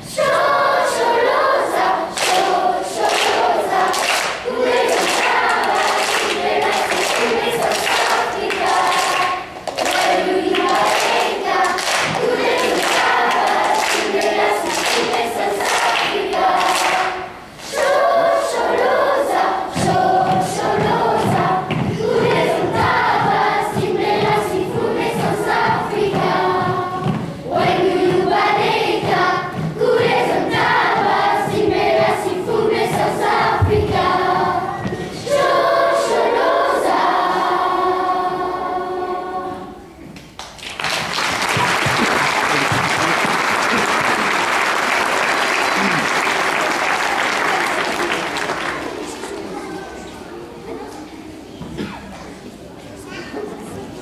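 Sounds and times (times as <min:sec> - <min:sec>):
children singing as a choir: 0:00.0 - 0:54.0.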